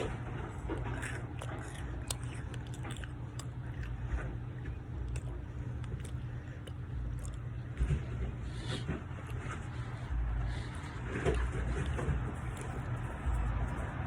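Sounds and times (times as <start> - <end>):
cookie crunching while chewing: 0.0 - 14.0
steady low hum: 0.0 - 14.0.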